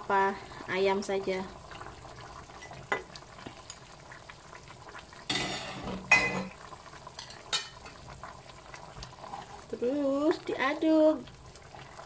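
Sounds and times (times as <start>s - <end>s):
sauce simmering with bubbling hiss: 0.0s - 12.0s.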